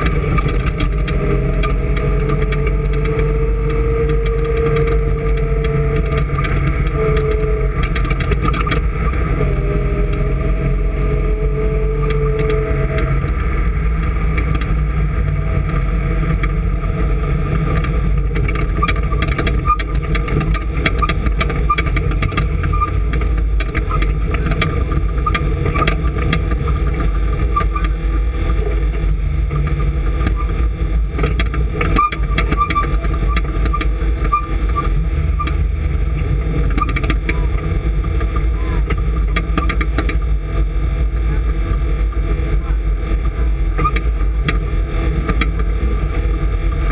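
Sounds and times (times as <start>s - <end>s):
engine running loudly: 0.0s - 46.9s.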